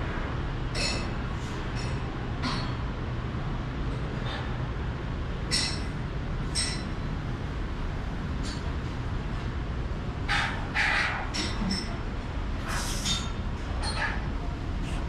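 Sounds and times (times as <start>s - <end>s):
low workshop rumble: 0.0s - 15.0s.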